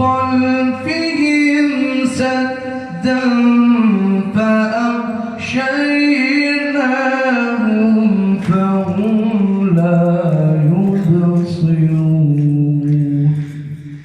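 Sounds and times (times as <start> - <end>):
person reciting melodically: 0.0 - 14.0.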